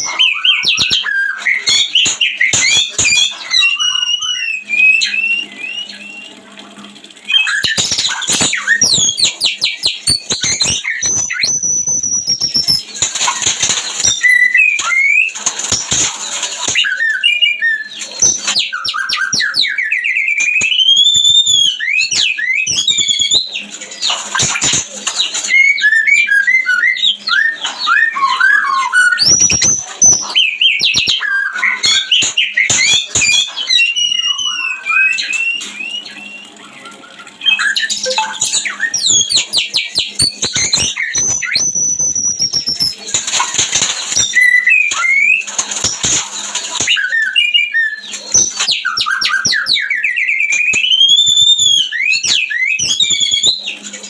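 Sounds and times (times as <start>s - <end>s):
songbird singing whistles: 0.0s - 6.4s, 7.3s - 53.8s.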